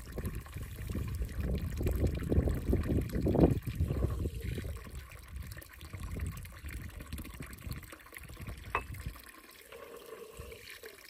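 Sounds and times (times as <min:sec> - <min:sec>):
fountain water trickling: 0:00.0 - 0:11.0.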